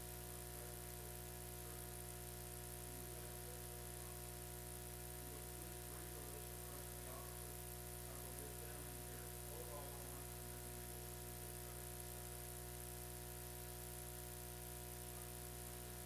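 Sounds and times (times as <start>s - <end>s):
electrical hum and buzz: 0.0s - 16.0s.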